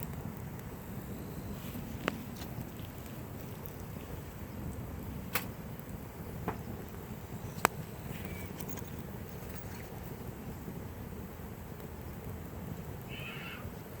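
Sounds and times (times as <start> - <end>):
sharp fire pops: 0.0 - 13.3
campfire burning: 0.0 - 14.0.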